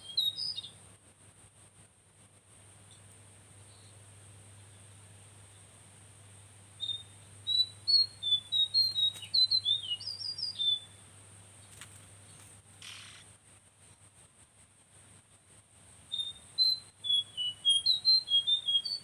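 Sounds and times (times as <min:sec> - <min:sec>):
songbird chirping: 0:00.0 - 0:01.0, 0:02.3 - 0:14.3, 0:14.9 - 0:19.0.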